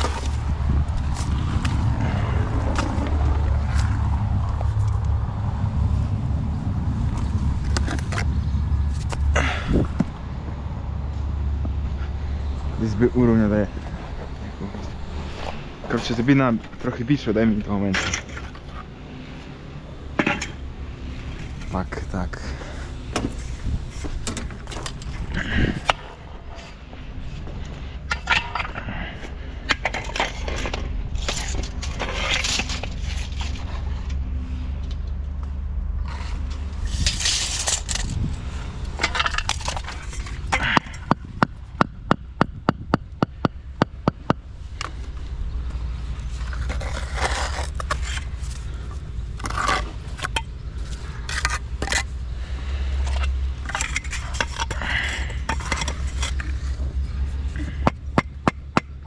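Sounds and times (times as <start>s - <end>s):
scraping and handling noises: 0.0s - 5.2s, 11.1s - 41.6s, 44.2s - 59.0s
steady low rumble: 0.0s - 59.0s.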